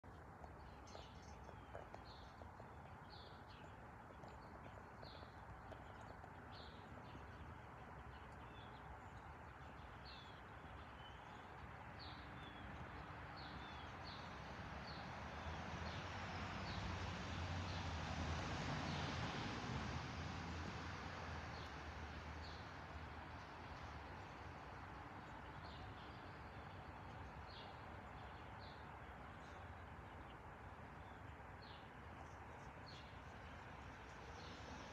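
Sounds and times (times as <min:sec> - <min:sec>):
small birds chirping: 0:00.0 - 0:16.9, 0:22.4 - 0:34.9.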